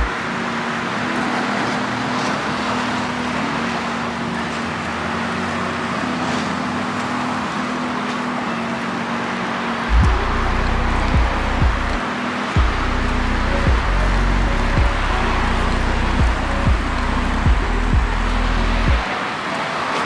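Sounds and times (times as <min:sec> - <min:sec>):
vehicle running steadily: 0:00.0 - 0:20.0.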